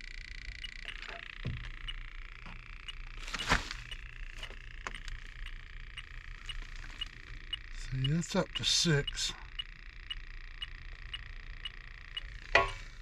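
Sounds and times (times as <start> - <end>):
leak detector ticking: 0.0 - 13.0
steady high hum: 0.0 - 13.0.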